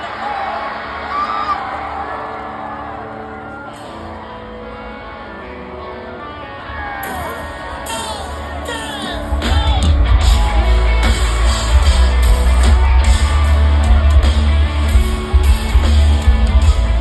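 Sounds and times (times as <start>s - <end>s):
crowd whooping: 0.0s - 17.0s
live country-rock band playing: 1.8s - 17.0s.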